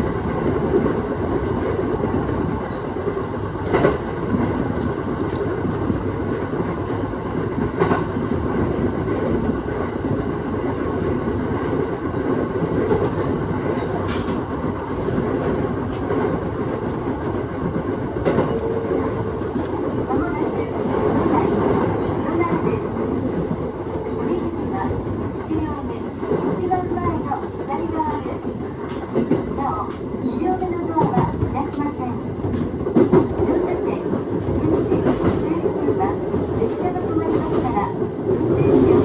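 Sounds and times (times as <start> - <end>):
train wheels rumbling on rail: 0.0 - 39.0
rail joint clicks: 0.1 - 39.0.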